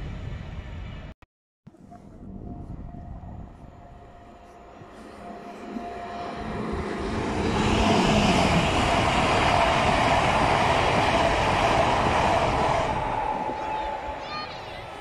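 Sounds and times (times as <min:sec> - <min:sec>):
electric train passing at speed: 0:00.0 - 0:01.1, 0:01.7 - 0:15.0
train whine: 0:01.7 - 0:15.0.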